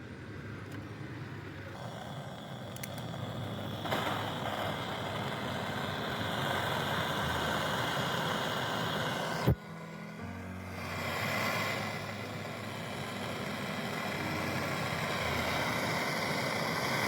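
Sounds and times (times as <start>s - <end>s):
torch flame hissing: 1.0s - 17.0s.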